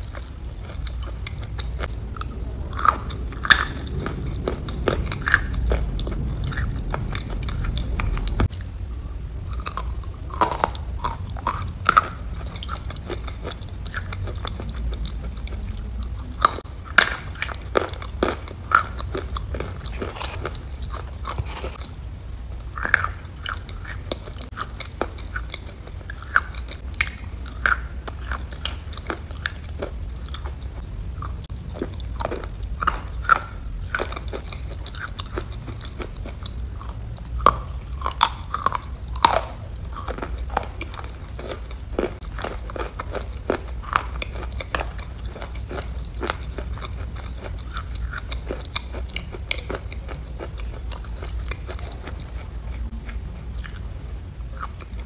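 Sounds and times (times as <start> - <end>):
person chewing and biting: 0.0 - 55.0.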